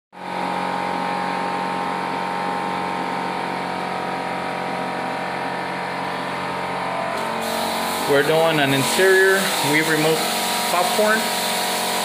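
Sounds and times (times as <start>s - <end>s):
machine humming with hiss: 0.4s - 12.0s.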